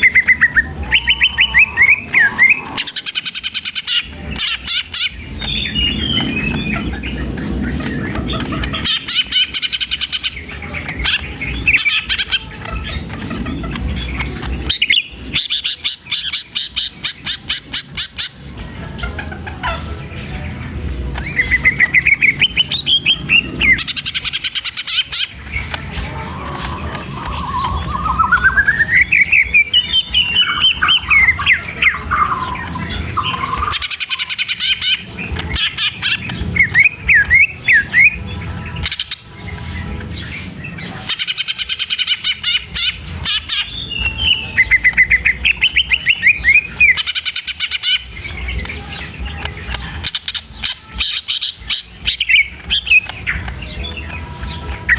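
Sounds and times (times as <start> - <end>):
young bird singing: 0.0 - 54.9.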